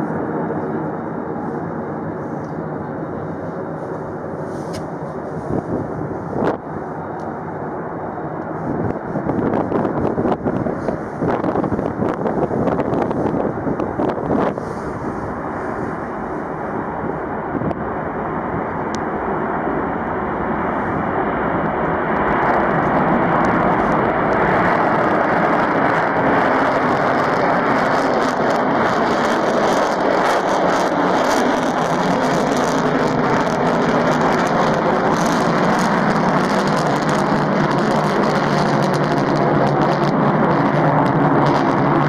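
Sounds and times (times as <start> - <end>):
jet engine roar with crackle: 0.0 - 42.0.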